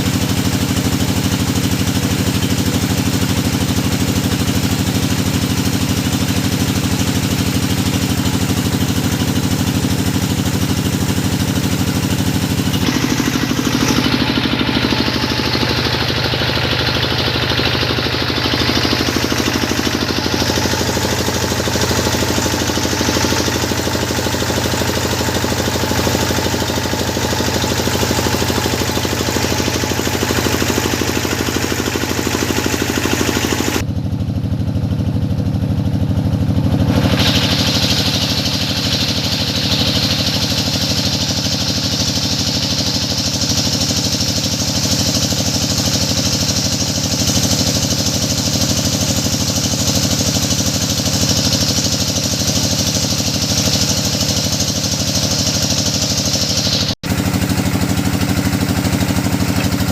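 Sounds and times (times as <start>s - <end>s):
drilling machine engine running: 0.0s - 59.9s.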